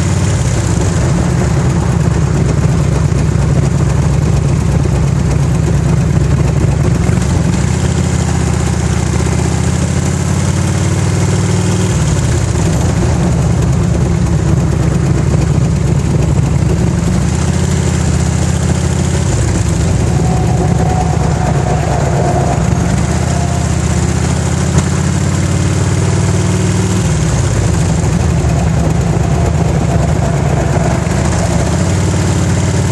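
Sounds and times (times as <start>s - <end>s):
engine ticking: 0.0s - 32.9s
motorcycle engine idling: 0.0s - 32.9s.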